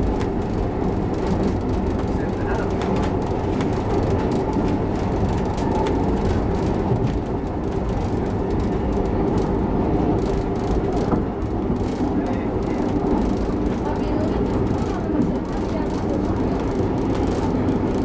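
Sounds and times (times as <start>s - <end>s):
light clicks of train wheels: 0.0s - 18.0s
train wheels rumbling on rails: 0.0s - 18.0s.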